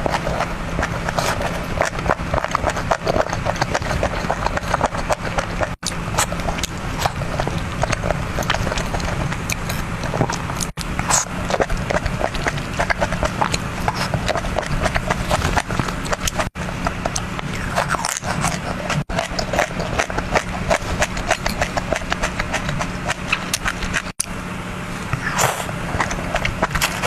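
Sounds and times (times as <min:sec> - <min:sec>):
chewing crunchy food: 0:00.0 - 0:24.4, 0:25.0 - 0:27.0
low steady hum: 0:00.0 - 0:27.0.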